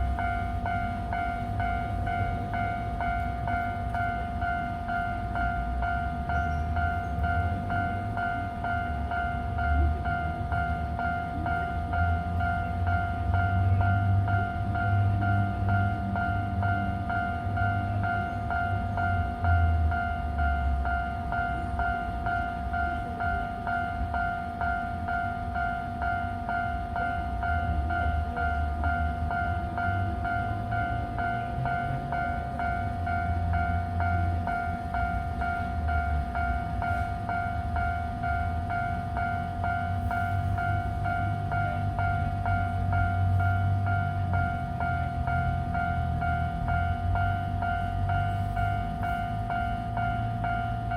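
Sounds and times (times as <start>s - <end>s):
level-crossing warning bell: 0.0s - 50.9s
train rumbling: 0.0s - 50.9s.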